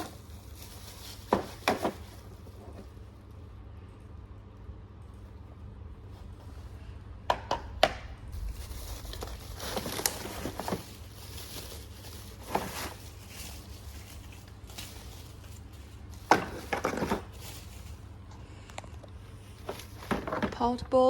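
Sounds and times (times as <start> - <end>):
rustling: 0.0 - 7.1, 8.2 - 21.0
steady low hum: 0.0 - 21.0.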